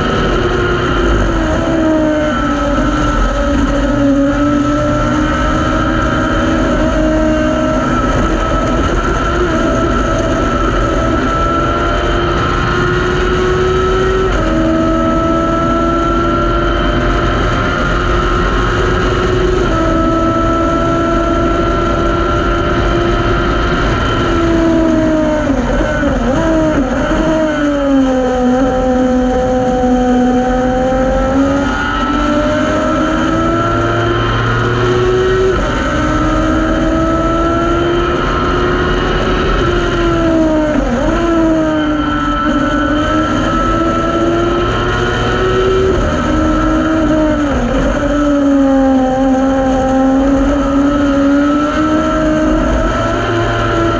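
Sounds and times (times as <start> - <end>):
race car engine revving: 0.0 - 53.9
wind and road noise: 0.0 - 53.9.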